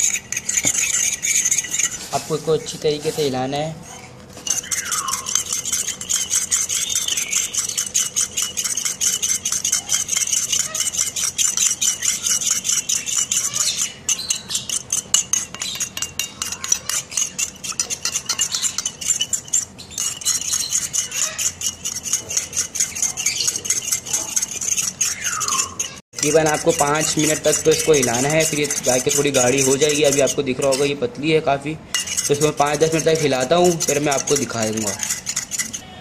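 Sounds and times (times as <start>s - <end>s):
metal spoon clinking in bowl: 4.5s - 30.9s, 31.9s - 35.8s.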